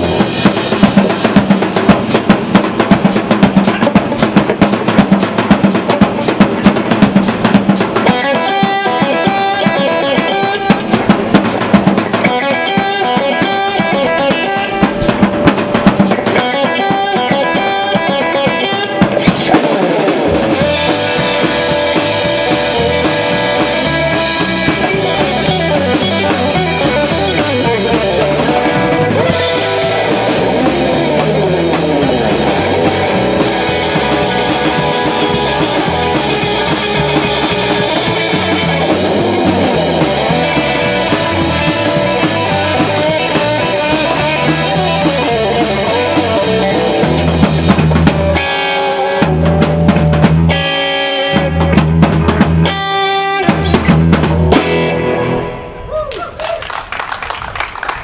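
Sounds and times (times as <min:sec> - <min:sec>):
guitar: 0:00.0 - 0:56.3
drum kit: 0:00.0 - 0:58.0
live band playing: 0:00.0 - 0:58.0.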